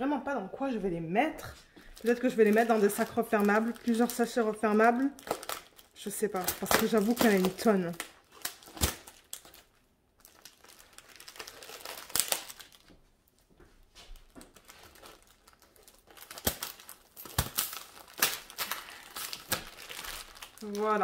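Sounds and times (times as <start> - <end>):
plastic packaging crinkling: 1.9 - 21.0.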